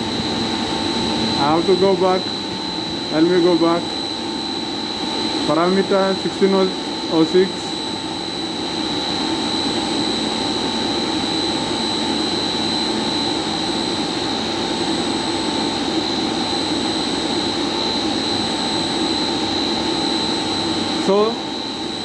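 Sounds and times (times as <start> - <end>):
high-pitched whine: 0.0 - 22.0.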